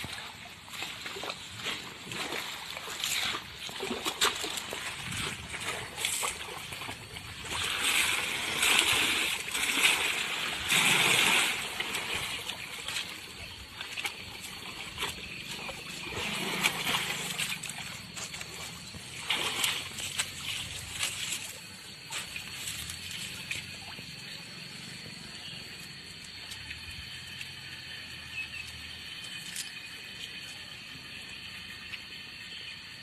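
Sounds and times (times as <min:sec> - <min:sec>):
elephant splashing in water: 0:00.0 - 0:28.0.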